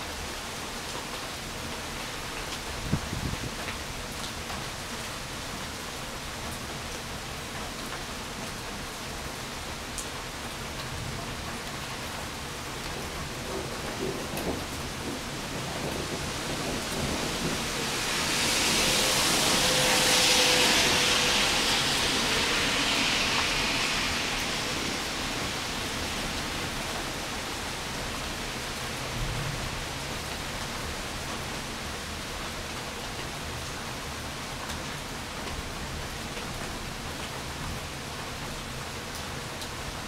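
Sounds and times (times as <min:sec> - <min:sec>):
rain falling on a wet street: 0:00.0 - 0:40.0.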